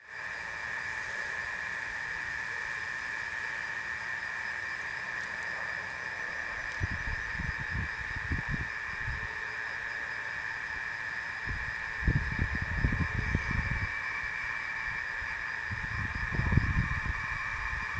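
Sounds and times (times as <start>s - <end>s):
night insects chorus: 0.0s - 17.9s.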